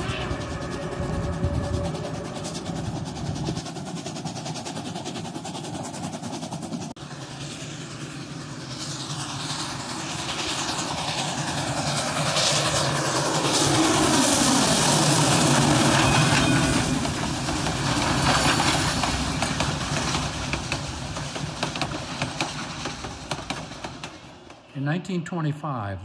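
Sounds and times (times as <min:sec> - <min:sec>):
steam train passing: 0:00.0 - 0:26.0.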